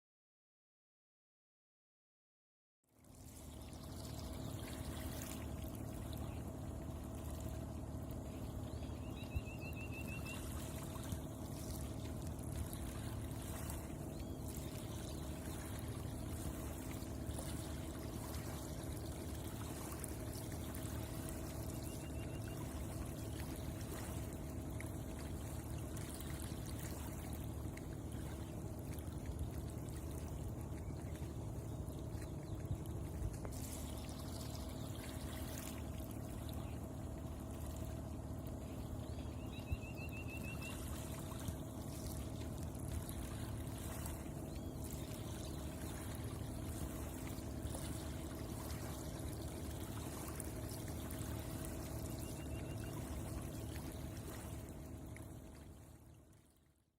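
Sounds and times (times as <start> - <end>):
shallow water trickling: 3.0 - 56.6.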